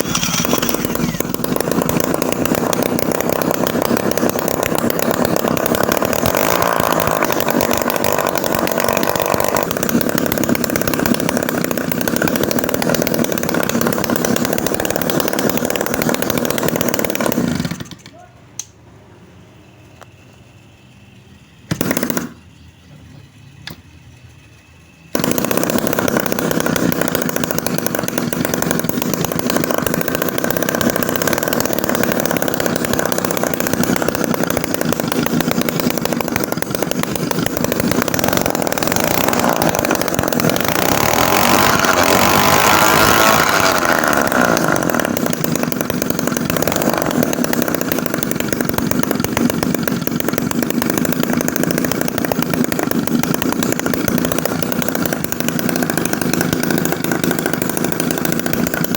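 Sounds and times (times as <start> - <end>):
small engine short burst: 0.0 - 18.4, 19.5 - 58.9
two-stroke engine running: 0.0 - 18.7, 19.6 - 58.9.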